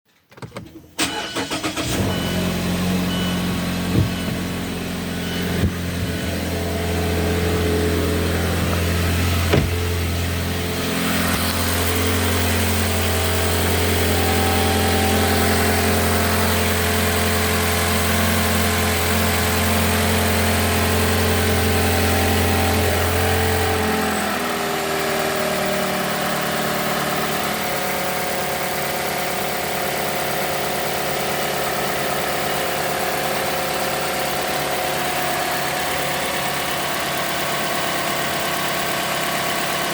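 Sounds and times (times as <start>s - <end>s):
car engine idling: 1.0s - 39.9s.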